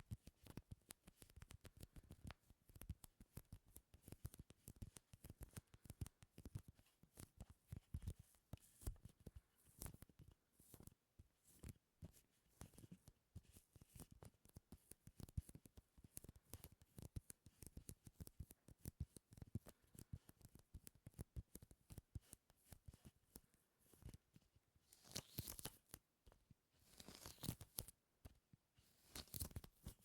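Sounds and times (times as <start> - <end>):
soft sticky clicks and crackles: 0.0 - 30.0.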